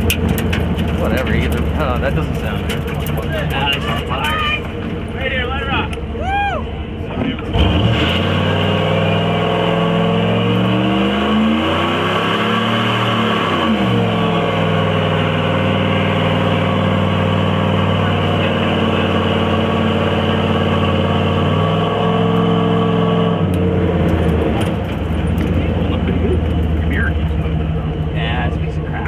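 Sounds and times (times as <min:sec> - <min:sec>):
pickup engine revving high: 0:00.0 - 0:29.0
tire spinning: 0:00.0 - 0:29.0.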